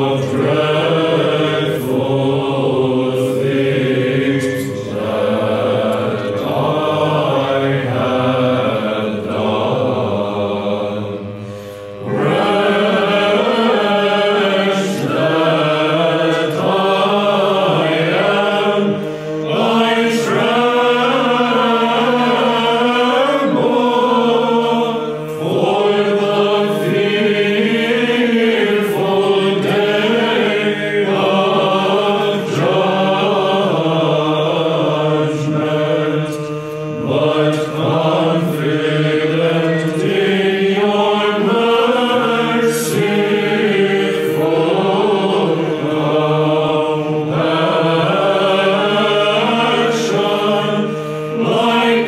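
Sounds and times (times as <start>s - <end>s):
held vocal drone: 0.0s - 52.0s
mixed choir chanting in unison: 0.0s - 52.0s.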